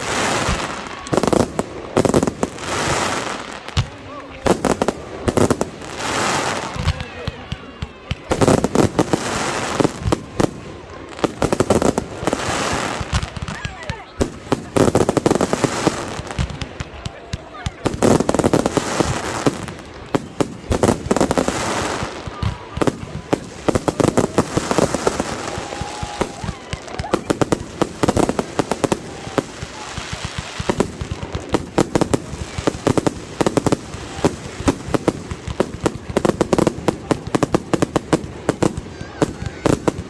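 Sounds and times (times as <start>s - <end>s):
fireworks popping and crackling: 0.0s - 40.0s.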